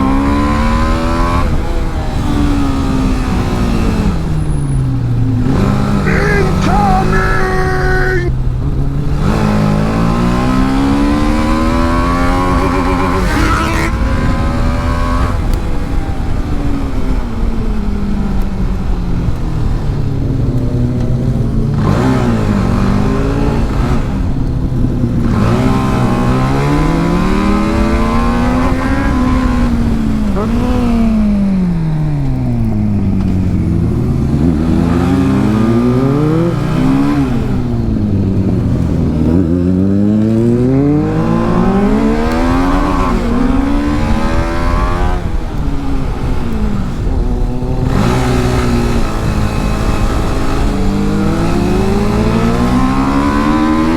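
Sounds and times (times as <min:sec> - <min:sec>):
motorcycle engine racing on track: 0:00.0 - 0:53.9.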